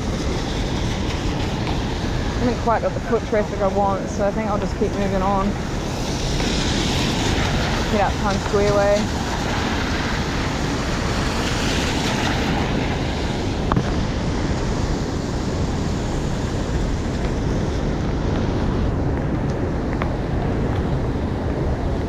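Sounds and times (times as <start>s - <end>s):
heavy rain on street: 0.0s - 22.0s.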